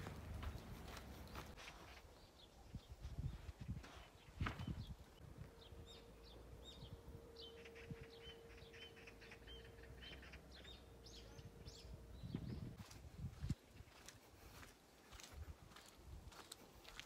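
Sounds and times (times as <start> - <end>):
birds chirping: 0.0 - 14.2.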